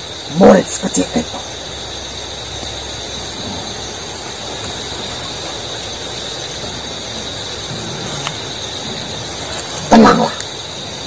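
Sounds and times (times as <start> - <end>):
constant hiss: 0.0 - 11.0
night insects chorus: 0.0 - 11.0.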